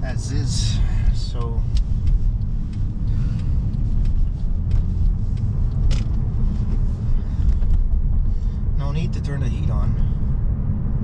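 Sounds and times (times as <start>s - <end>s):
car cabin engine and road rumble: 0.0s - 11.0s.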